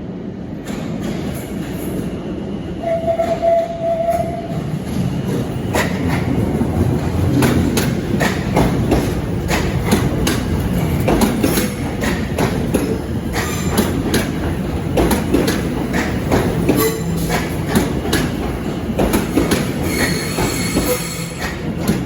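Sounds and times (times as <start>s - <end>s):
train rumbling over rail joints: 0.0s - 22.0s.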